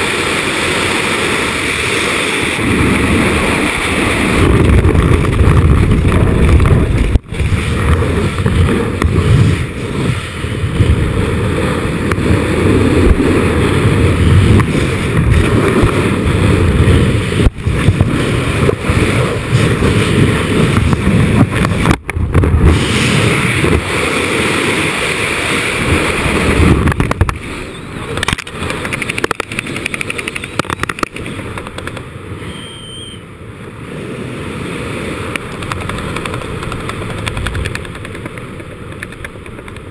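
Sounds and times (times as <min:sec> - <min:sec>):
wind buffeting microphone: 0:00.0 - 0:32.4, 0:34.0 - 0:39.9.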